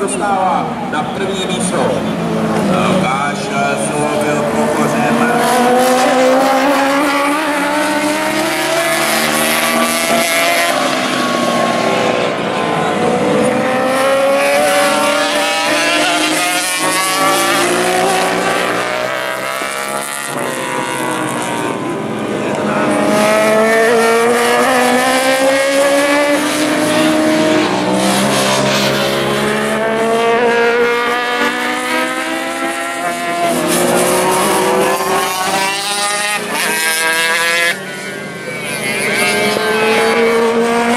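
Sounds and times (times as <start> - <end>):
racing motorcycles passing: 0.0 - 40.9.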